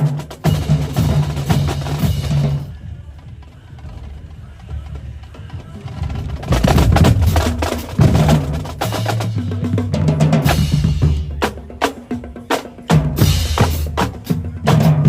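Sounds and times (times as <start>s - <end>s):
marching bass drums: 0.0s - 15.0s
marching drumline playing: 0.0s - 15.0s.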